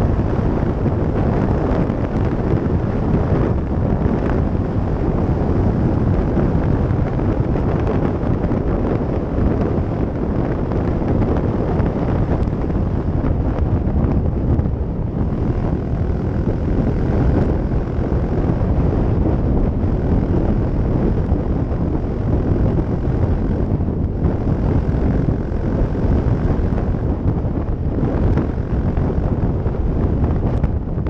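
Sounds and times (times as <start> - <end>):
motorcycle engine cruising: 0.0 - 31.0
wind noise on microphone: 0.0 - 31.0.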